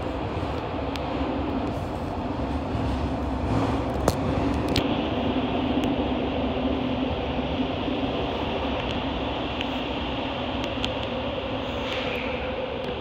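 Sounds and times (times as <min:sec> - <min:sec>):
constant low hum: 0:00.0 - 0:13.0
train wheels rumbling on rail: 0:00.0 - 0:13.0.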